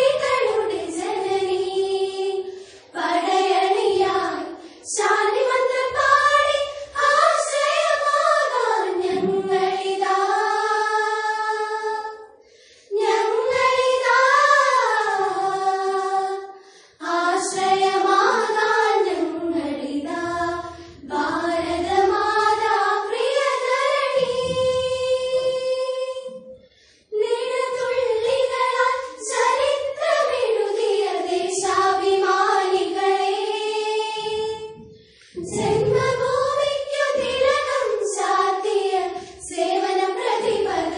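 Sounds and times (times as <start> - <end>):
girls singing in unison: 0.0 - 40.9.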